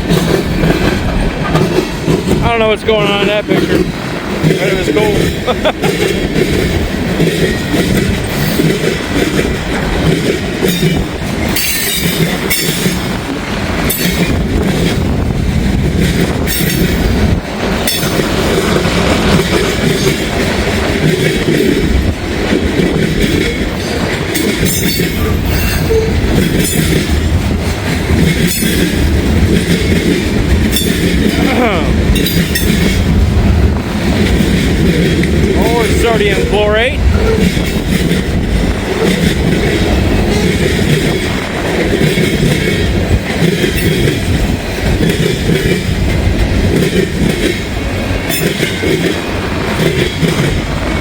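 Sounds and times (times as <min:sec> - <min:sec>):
train wheels on rails: 0:00.0 - 0:51.0
wind rumbling on microphone: 0:03.6 - 0:51.0.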